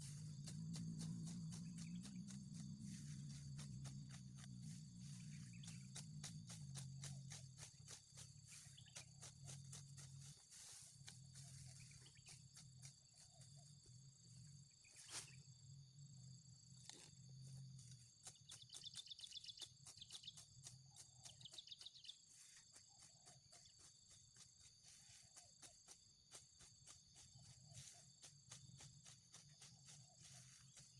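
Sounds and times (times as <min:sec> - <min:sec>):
crickets trilling: 0:00.0 - 0:30.9
insects buzzing: 0:00.0 - 0:30.9.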